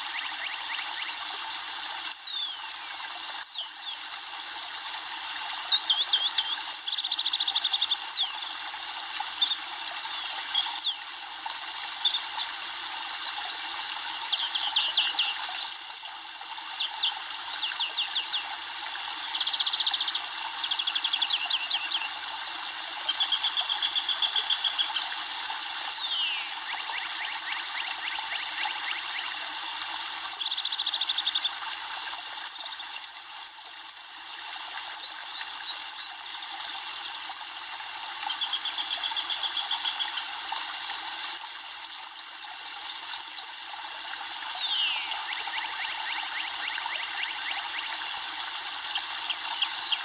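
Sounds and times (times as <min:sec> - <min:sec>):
small birds chirping: 0:00.0 - 0:25.3, 0:25.9 - 0:34.2, 0:34.8 - 0:37.6, 0:41.1 - 0:43.8, 0:44.6 - 0:48.0
stream trickling over stones: 0:00.0 - 0:50.0.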